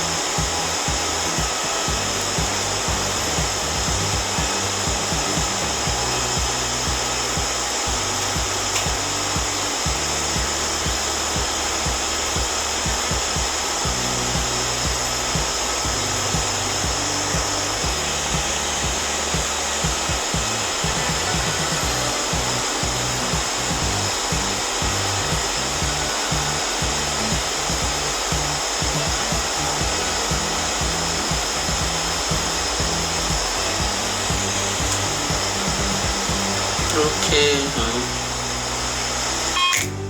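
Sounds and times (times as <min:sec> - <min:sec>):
background music with bass line: 0:00.0 - 0:40.0
blower rushing hiss: 0:00.0 - 0:40.0.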